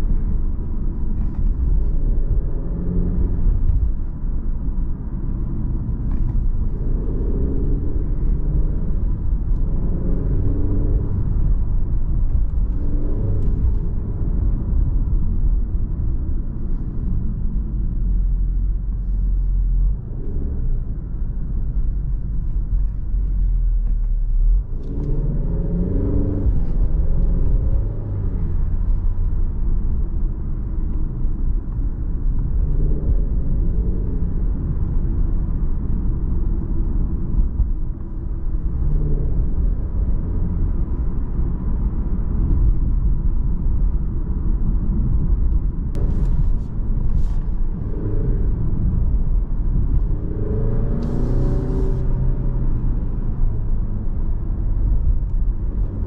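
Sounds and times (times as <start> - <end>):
car engine accelerating: 0.0 - 56.0
low road rumble: 0.0 - 56.0.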